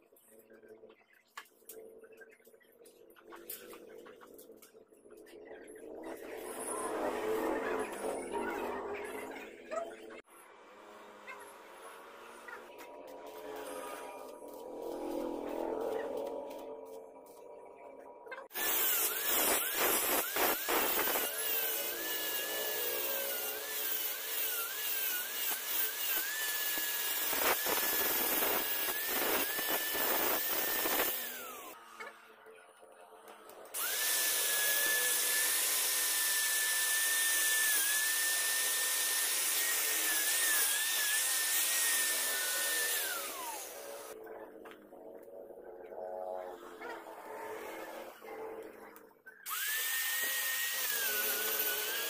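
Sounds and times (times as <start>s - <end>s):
angle grinder grinding steel: 4.2s - 10.2s, 10.8s - 17.9s, 18.5s - 32.5s, 33.5s - 52.0s.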